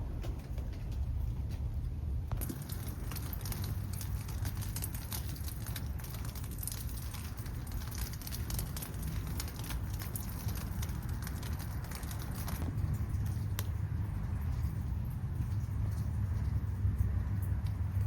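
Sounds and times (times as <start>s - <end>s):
steady low rumble: 0.0s - 18.0s
rain pattering: 2.3s - 18.0s.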